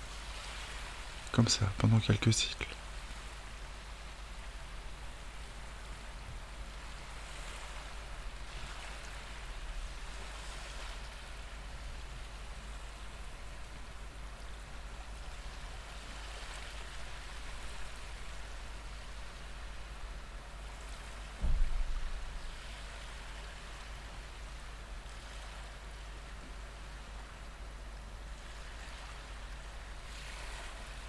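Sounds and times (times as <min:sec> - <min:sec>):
ocean waves washing: 0:00.0 - 0:31.0.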